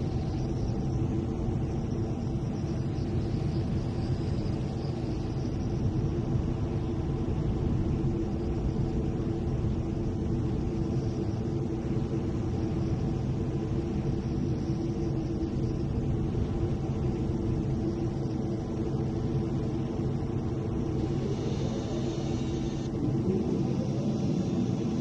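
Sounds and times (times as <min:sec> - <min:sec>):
jet engine rumble in cockpit: 0:00.0 - 0:25.0.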